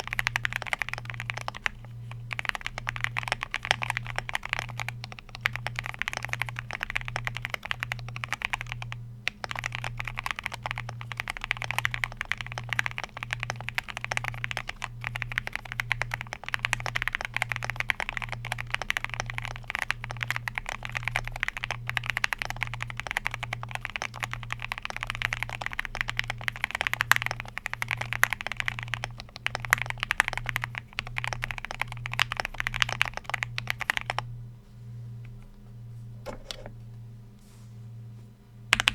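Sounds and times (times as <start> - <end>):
fast typing on mechanical keyboard: 0.0 - 34.3.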